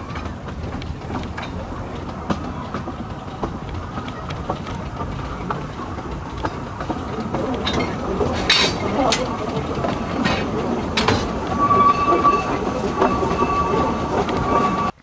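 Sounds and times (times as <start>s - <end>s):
train rumbling on track: 0.0s - 15.0s
wheels clicking over rail joints: 0.0s - 15.0s.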